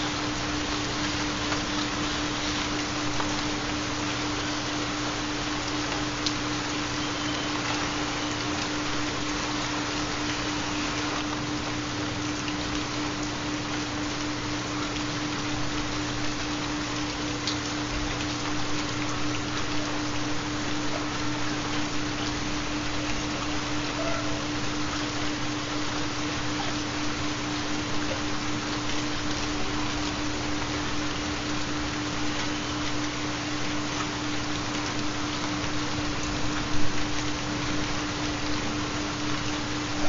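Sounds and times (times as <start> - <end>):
rain patter: 0.0 - 40.0.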